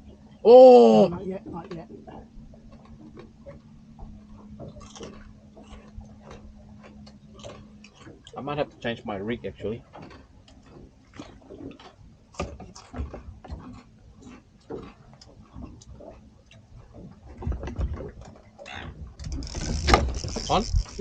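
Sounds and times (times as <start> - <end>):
fishing gear clicking and knocking: 1.5 - 8.9, 9.6 - 21.0.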